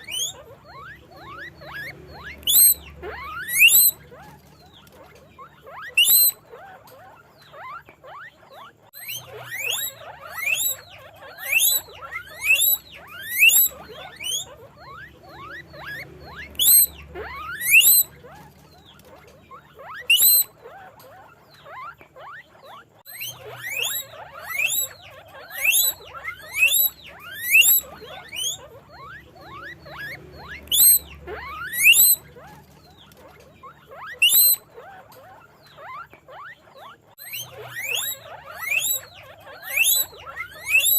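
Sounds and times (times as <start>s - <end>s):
guinea pig squeaking: 0.0s - 40.9s.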